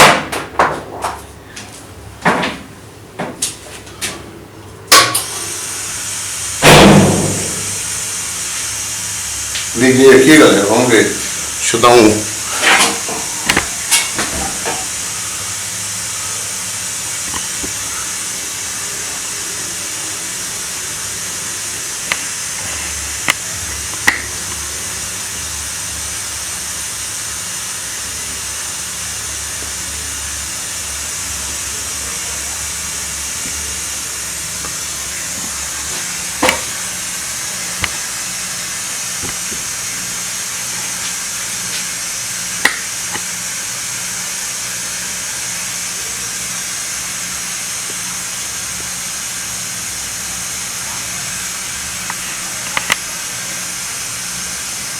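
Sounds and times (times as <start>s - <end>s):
air compressor hissing and humming: 0.0s - 54.9s.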